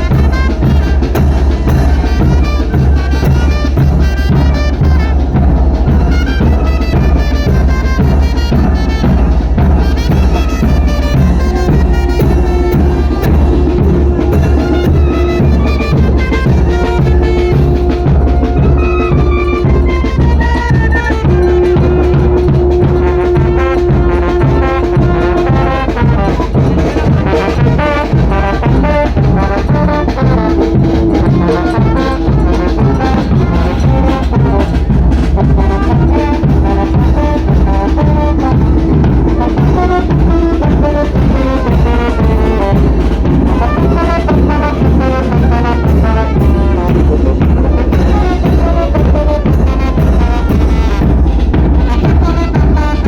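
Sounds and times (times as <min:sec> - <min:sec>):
heavy bass line: 0:00.0 - 0:50.1
drums: 0:00.0 - 0:53.0
trumpets and trombones playing: 0:00.0 - 0:53.0.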